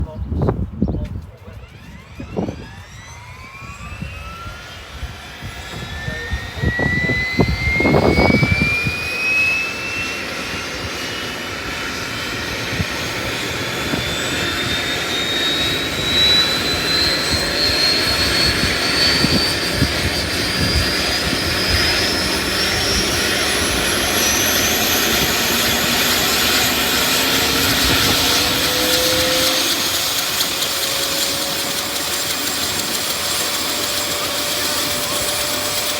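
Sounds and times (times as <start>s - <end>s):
helicopter turbine whine: 0.0s - 35.9s.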